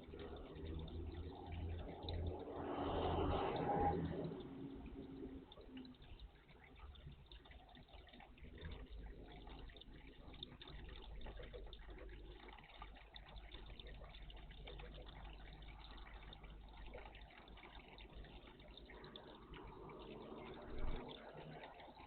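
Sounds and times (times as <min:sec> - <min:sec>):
water trickling in bird bath: 0:00.0 - 0:22.0.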